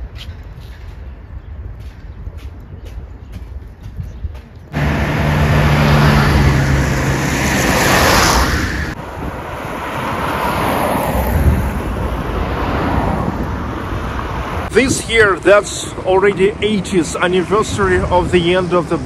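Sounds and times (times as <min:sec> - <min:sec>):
street traffic engine hum: 0:00.0 - 0:19.0.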